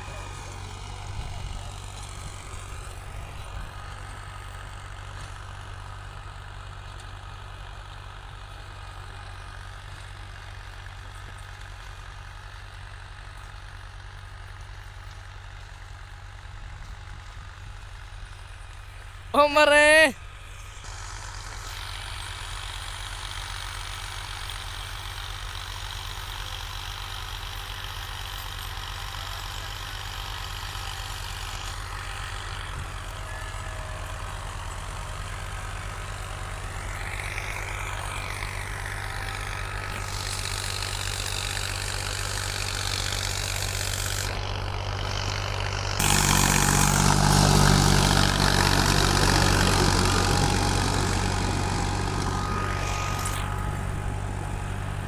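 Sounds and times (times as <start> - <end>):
diesel tractor engine under load: 0.0 - 19.4, 20.2 - 55.0.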